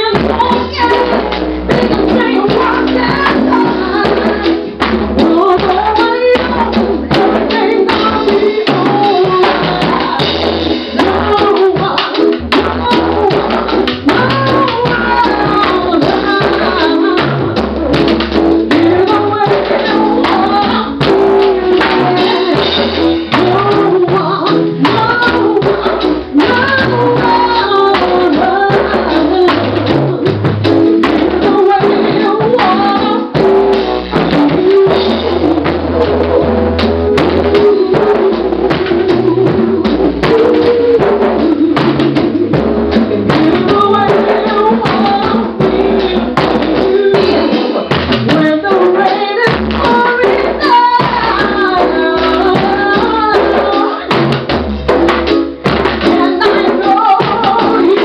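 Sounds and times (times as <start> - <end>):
bass line: 0.0 - 58.0
drum kit with cymbals: 0.0 - 58.0
woman singing into microphone: 0.0 - 58.0.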